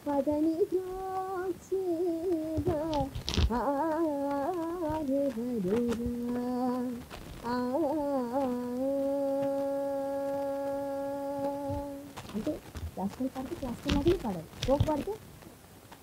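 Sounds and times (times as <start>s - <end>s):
woman singing wordless phrase: 0.0s - 15.2s.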